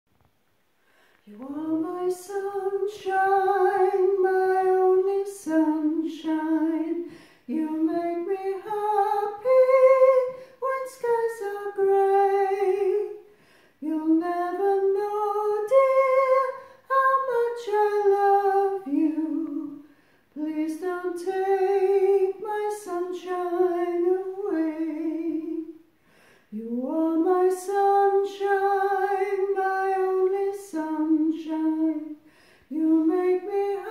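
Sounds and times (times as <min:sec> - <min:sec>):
woman singing unaccompanied: 0:01.2 - 0:25.8, 0:26.5 - 0:33.9.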